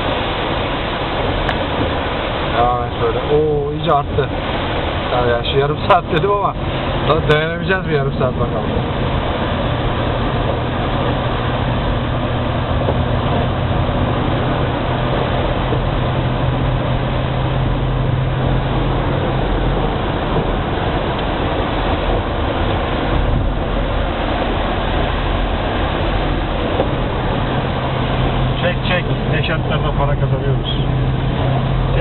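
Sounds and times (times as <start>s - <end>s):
road noise rushing: 0.0s - 32.0s
truck engine hum: 0.0s - 32.0s.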